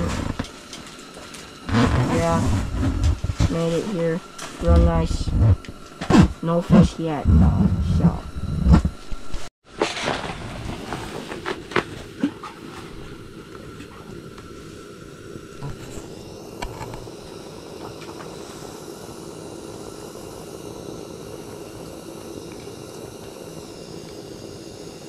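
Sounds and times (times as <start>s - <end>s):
propane heater hissing: 0.0s - 25.0s.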